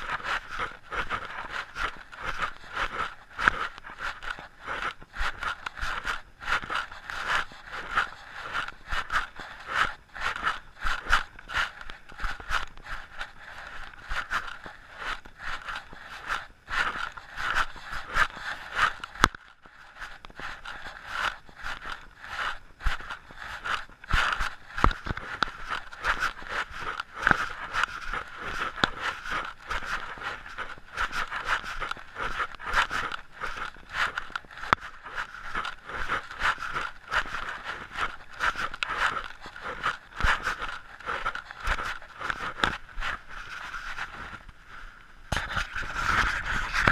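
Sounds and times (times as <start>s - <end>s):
footsteps crunching on dirt trail: 0.0s - 46.9s
straps scraping against camera: 0.0s - 46.9s.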